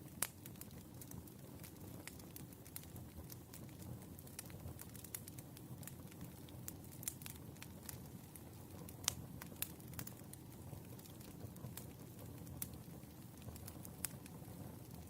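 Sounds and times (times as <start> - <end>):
firewood crackling and popping: 0.0 - 15.0
low fire rumble: 0.0 - 15.0.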